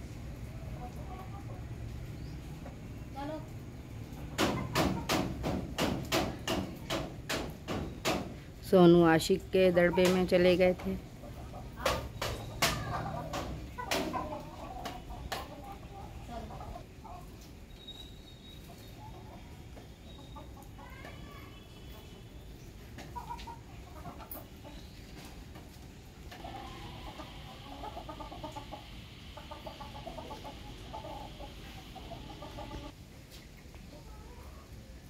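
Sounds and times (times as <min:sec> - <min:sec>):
hens clucking: 0:00.3 - 0:03.3, 0:03.9 - 0:17.7, 0:18.6 - 0:34.9.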